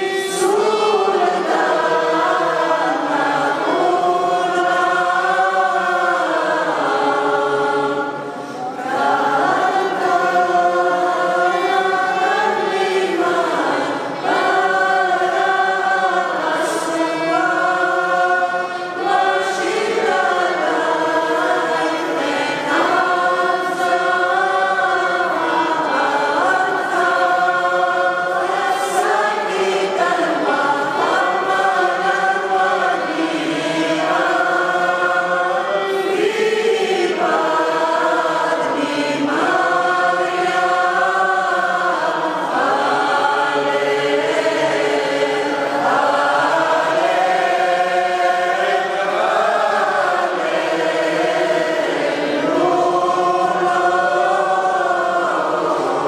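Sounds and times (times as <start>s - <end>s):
church choir singing: 0.0s - 56.0s.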